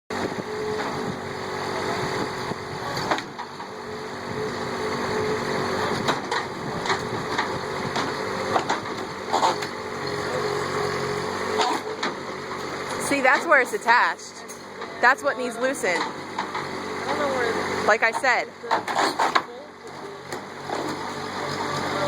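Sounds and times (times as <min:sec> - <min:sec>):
small engine running: 0:00.1 - 0:22.0.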